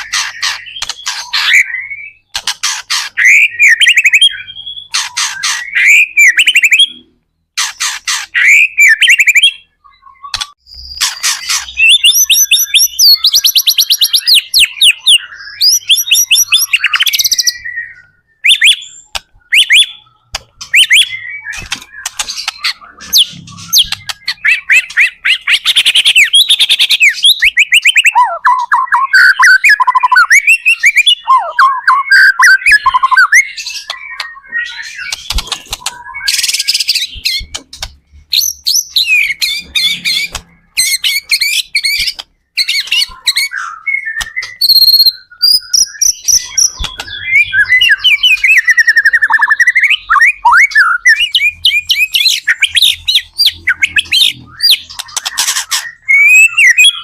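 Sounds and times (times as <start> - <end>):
songbird whistling and trilling: 0.0 - 57.0.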